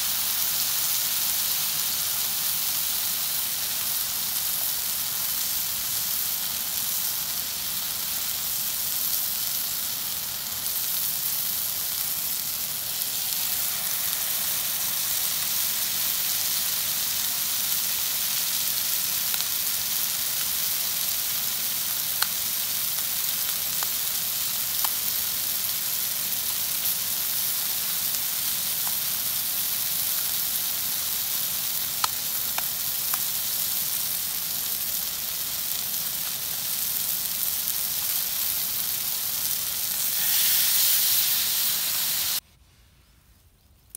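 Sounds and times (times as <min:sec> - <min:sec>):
fish sizzling in hot oil: 0:00.0 - 0:42.4.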